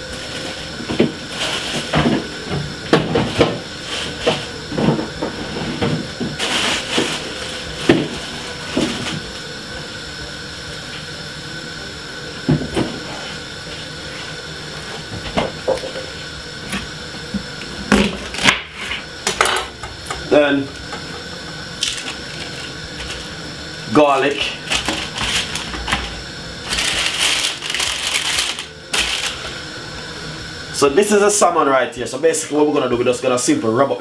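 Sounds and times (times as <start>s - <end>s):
faint hum: 0.0s - 34.0s.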